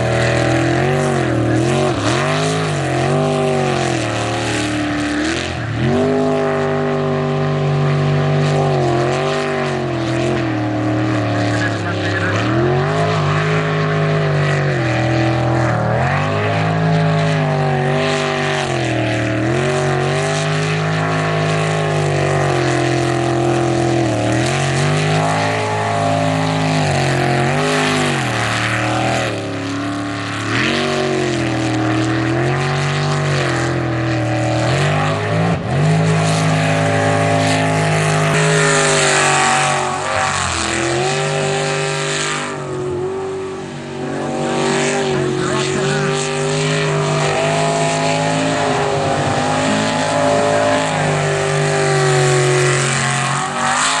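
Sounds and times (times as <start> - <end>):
jet boat engine revving: 0.0 - 54.0.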